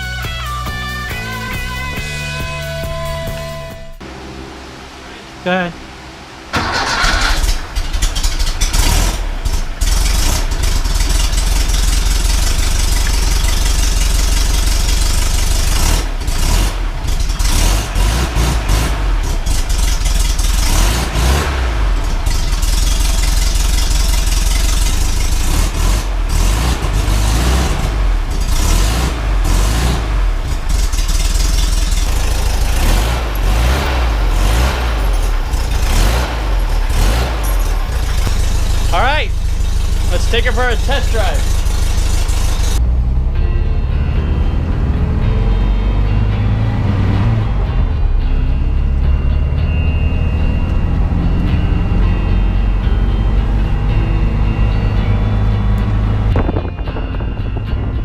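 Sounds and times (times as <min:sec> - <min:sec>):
car engine running loudly: 0:00.0 - 0:58.0.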